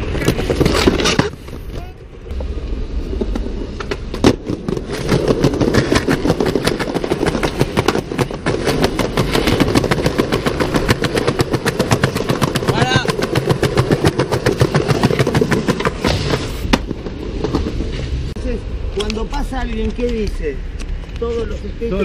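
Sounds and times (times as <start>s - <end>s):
skateboard clack: 0.0s - 18.3s
skateboard wheels rumbling: 0.0s - 21.2s
wheels clattering over sidewalk: 0.0s - 21.4s.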